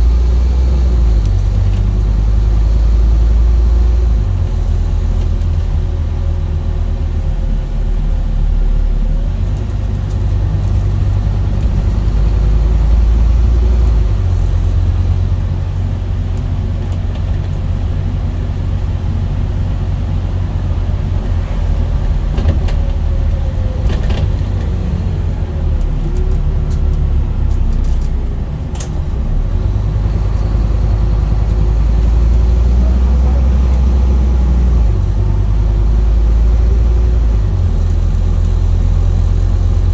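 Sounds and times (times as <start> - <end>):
bus diesel engine rumbling: 0.0 - 39.9.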